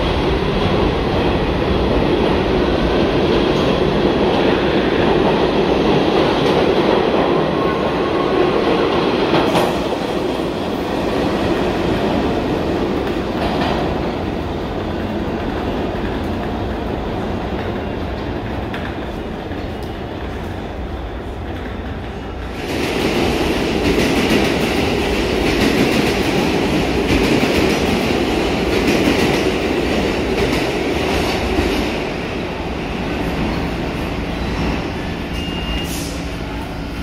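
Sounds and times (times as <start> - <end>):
subway train wheel and rail rumble: 0.0 - 37.0.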